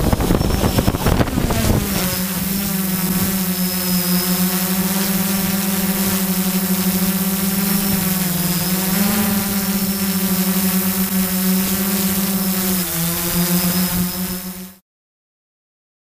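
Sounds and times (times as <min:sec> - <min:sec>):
drone propellers buzzing: 0:00.0 - 0:14.8.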